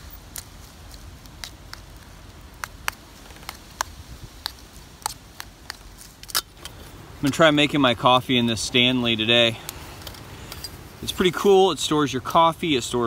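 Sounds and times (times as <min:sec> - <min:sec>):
wood fire crackling: 0:00.0 - 0:12.3.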